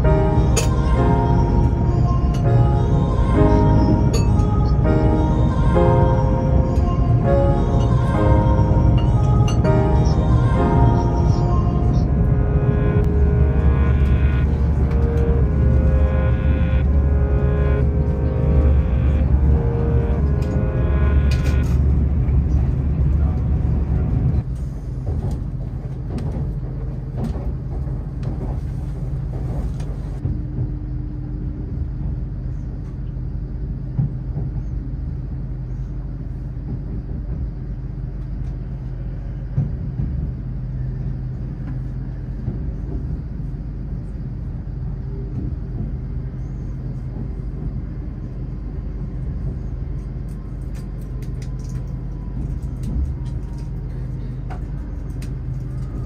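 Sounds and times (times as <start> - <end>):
train interior rumble and hum: 0.0 - 56.0.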